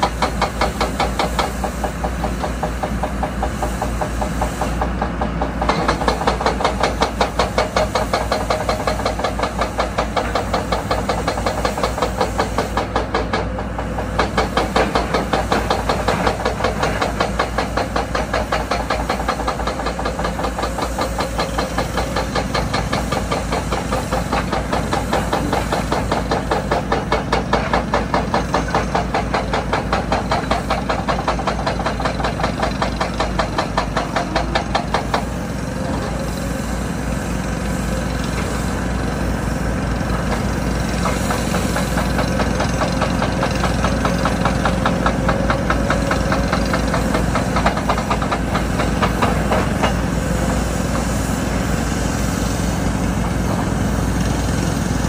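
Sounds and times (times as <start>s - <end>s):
diesel engines of heavy machinery: 0.0s - 55.0s.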